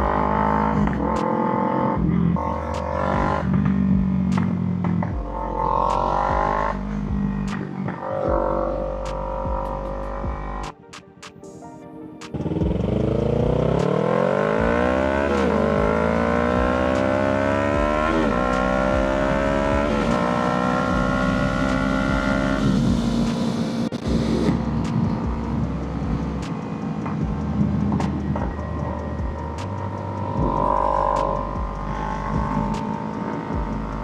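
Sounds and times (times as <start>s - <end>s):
motorcycle engine accelerating: 0.0s - 10.7s, 12.4s - 34.0s.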